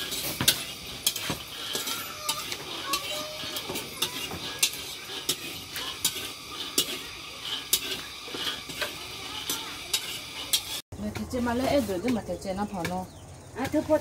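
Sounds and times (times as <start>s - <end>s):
beans rattling in metal wok: 0.0s - 14.0s
spatula stirring with clinks: 0.0s - 14.0s.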